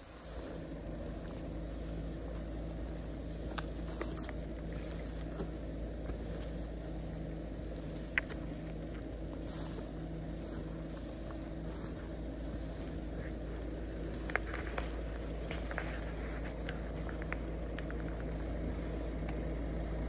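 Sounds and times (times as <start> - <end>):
diesel engine running at low speed: 0.0 - 20.0.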